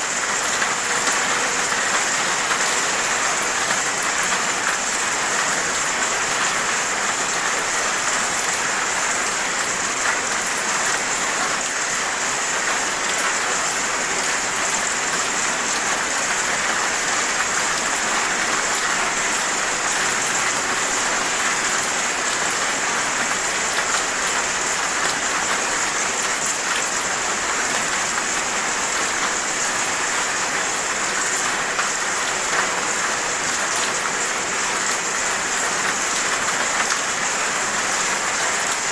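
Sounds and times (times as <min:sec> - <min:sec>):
raindrops hitting a surface: 0:00.0 - 0:38.9
steady rain hiss: 0:00.0 - 0:38.9.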